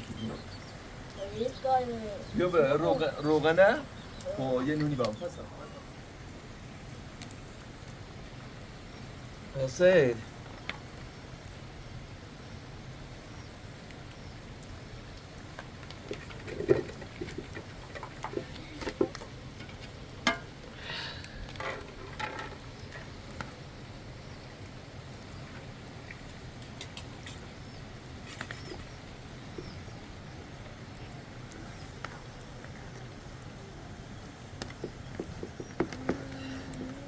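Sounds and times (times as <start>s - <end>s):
low background hiss: 0.0s - 37.0s.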